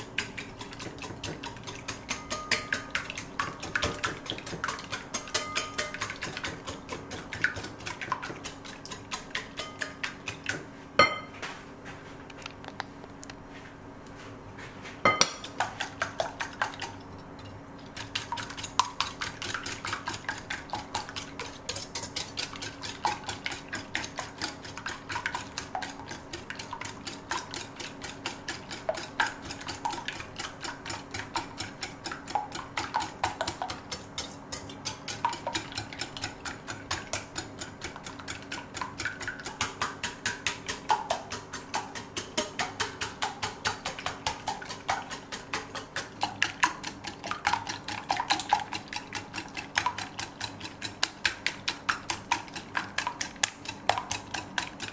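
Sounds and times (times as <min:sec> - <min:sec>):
whisk clicking against glass bowl: 0:00.0 - 0:11.3, 0:17.9 - 0:54.9.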